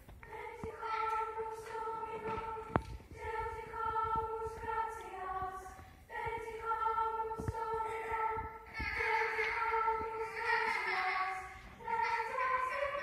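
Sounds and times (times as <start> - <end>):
girls' choir singing: 0.0 - 13.0.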